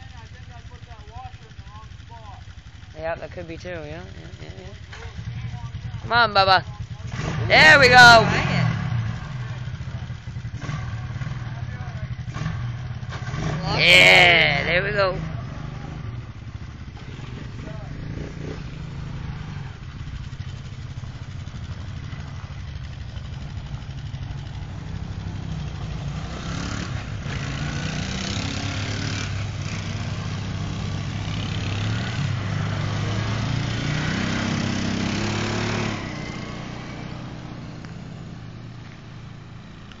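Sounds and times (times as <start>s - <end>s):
quad engine revving: 3.6s - 38.4s.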